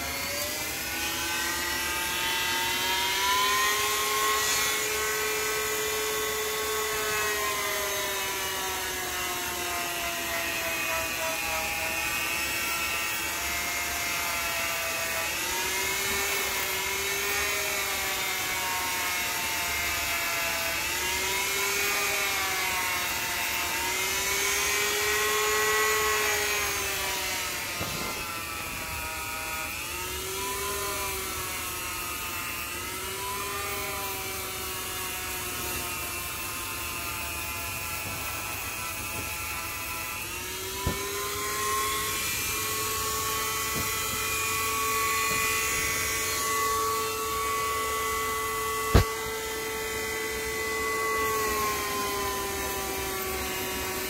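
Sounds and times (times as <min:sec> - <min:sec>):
power tool motor whining: 0:00.0 - 0:54.0.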